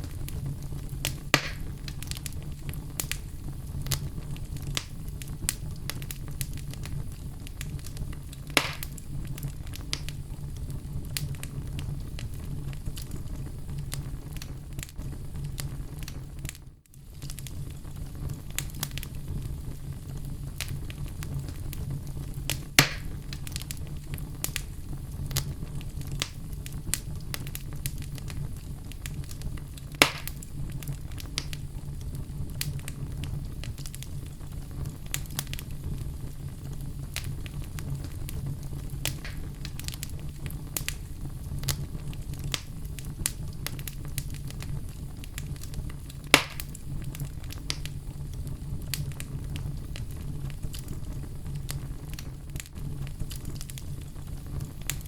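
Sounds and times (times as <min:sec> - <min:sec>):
logs burning with crackling: 0:00.0 - 0:55.0
loud fire pops: 0:00.0 - 0:55.0.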